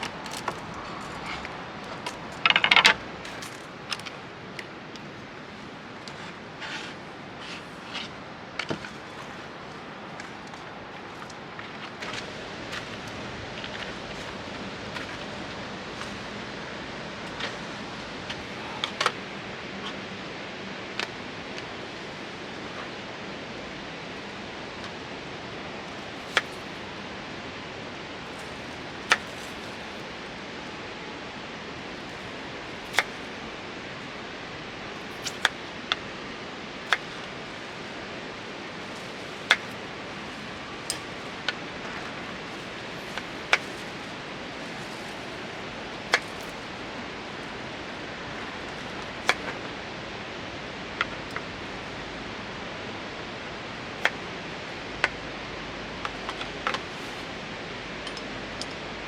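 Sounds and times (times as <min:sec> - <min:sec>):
wood fire hissing: 0:00.0 - 0:59.0.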